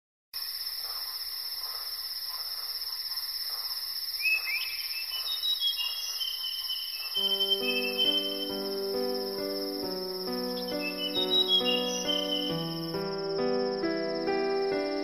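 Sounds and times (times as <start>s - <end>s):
crickets chirping: 0.4s - 15.0s.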